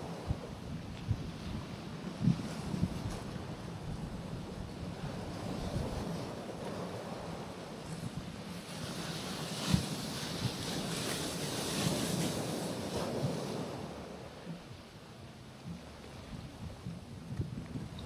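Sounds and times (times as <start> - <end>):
wave washing over rocks: 0.0 - 15.2
wind on microphone: 0.0 - 18.0.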